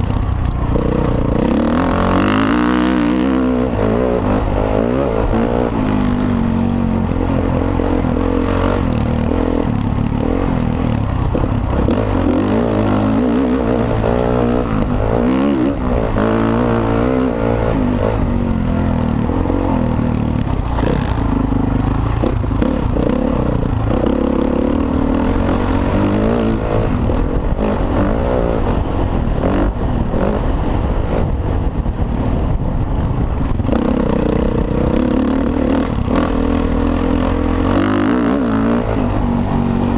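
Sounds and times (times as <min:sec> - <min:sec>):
dirt bike engine revving: 0:00.0 - 0:31.6, 0:33.3 - 0:39.9.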